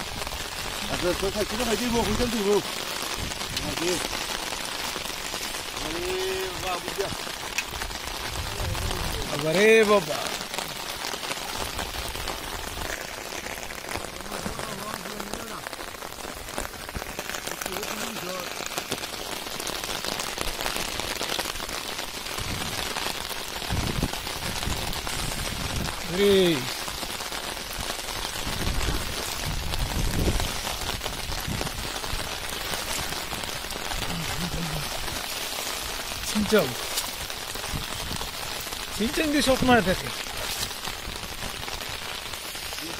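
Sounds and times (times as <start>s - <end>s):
rain falling on water: 0.0s - 42.9s.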